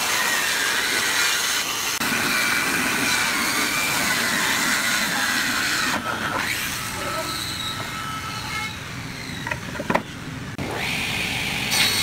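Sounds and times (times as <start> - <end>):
circular saw cutting wood: 0.0 - 12.0.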